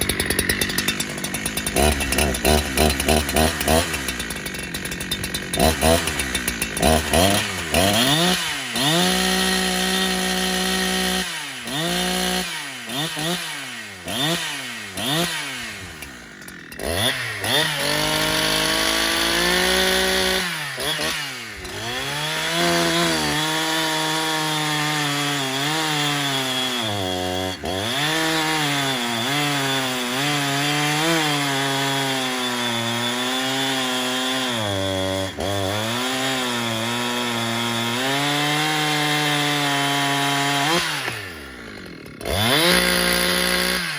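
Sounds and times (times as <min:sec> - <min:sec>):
chainsaw revving and cutting wood: 0:00.0 - 0:43.9.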